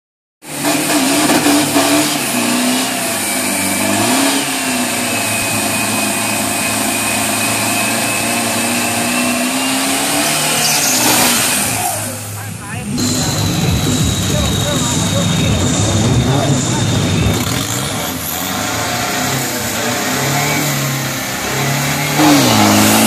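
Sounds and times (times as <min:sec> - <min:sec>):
truck engine at high revs: 0:00.4 - 0:23.0.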